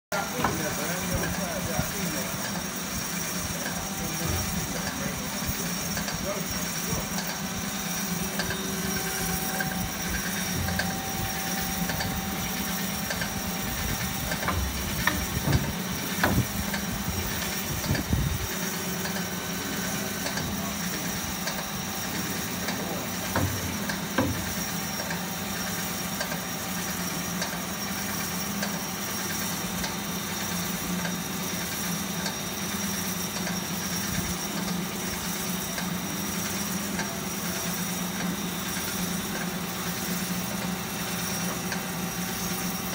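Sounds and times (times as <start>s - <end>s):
bandsaw motor hum and whine: 0.1s - 42.9s.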